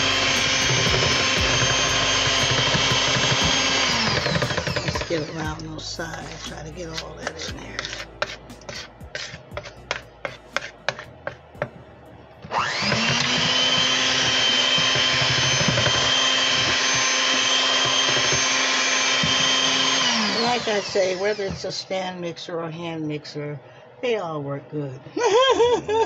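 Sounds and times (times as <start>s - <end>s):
hand mixer motor whine: 0.0s - 11.8s, 12.4s - 22.0s.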